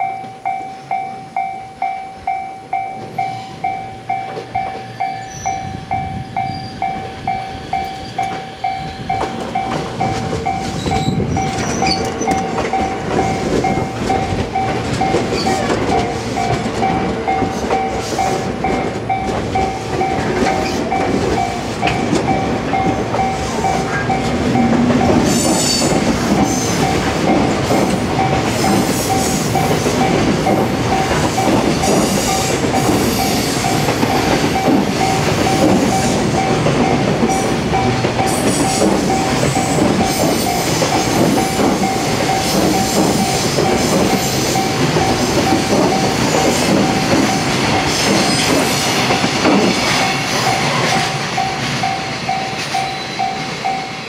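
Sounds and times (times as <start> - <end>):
level-crossing bell ringing: 0.0 - 54.0
train wheels rumbling and clacking: 0.0 - 54.0
high clicking and squeal: 3.0 - 54.0.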